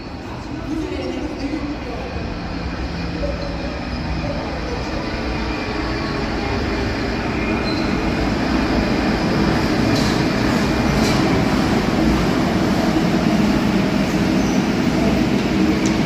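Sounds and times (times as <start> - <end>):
tram running: 0.0 - 16.0.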